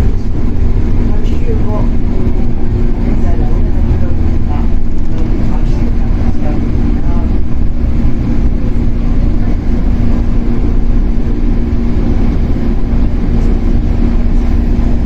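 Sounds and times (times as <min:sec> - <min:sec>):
constant train motor hum: 0:00.0 - 0:15.0
train wheels rumbling on rails: 0:00.0 - 0:15.0.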